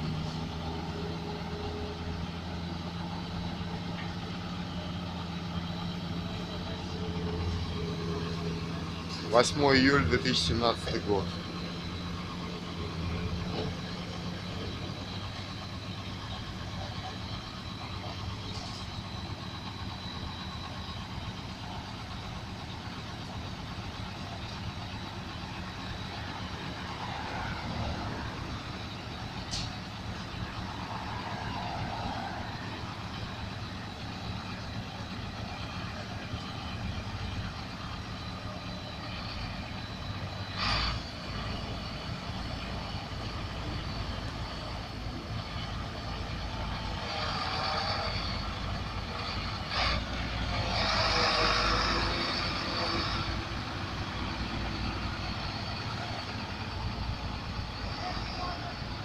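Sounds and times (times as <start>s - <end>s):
vehicle engine rumble: 0.0s - 59.0s.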